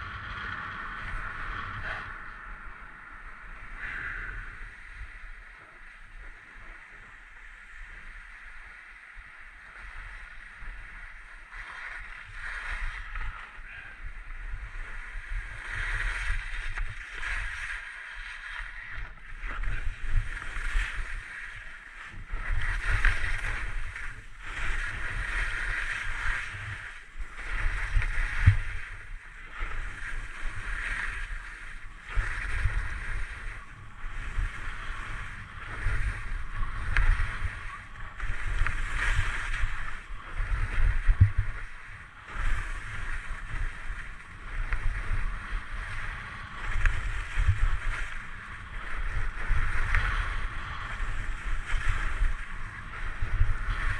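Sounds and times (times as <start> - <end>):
wind buffeting microphone: 0.0 - 53.9
skis scraping across snow: 3.3 - 53.9.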